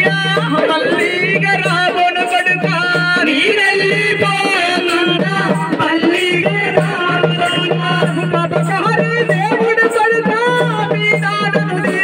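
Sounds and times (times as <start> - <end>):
lament sung through loudspeaker: 0.0 - 12.0.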